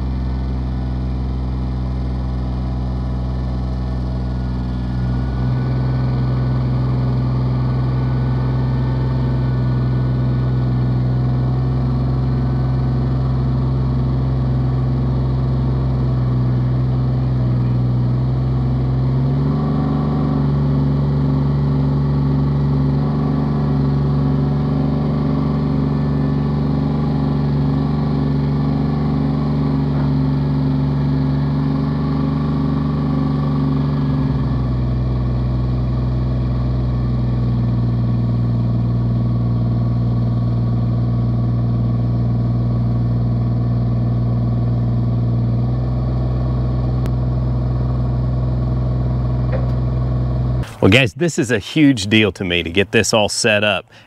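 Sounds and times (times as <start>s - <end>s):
gasoline engine running: 0.0s - 54.0s.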